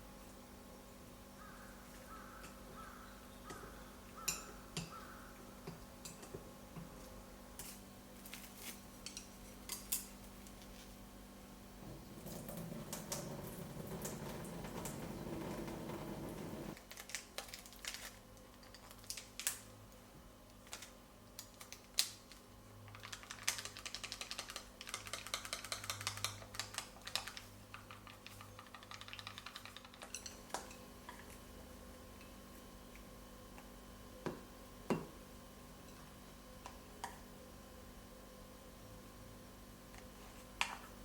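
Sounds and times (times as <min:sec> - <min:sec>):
steady kitchen noise: 0:00.0 - 0:41.0.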